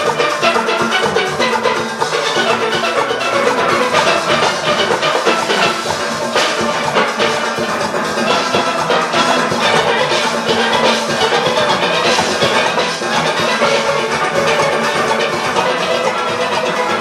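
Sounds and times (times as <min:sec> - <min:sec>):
drum and percussion rhythm: 0:00.0 - 0:17.0
steelpans playing: 0:00.0 - 0:17.0.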